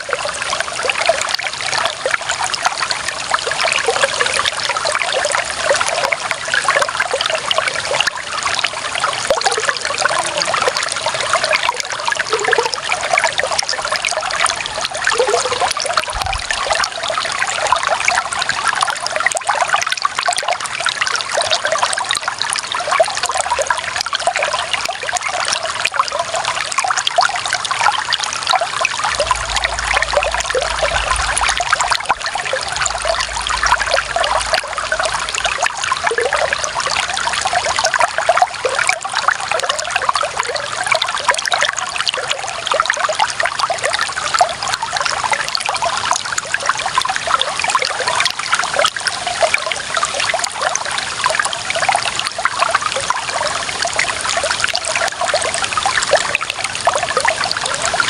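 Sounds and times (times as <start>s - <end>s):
water trickling over stones: 0.0s - 58.0s.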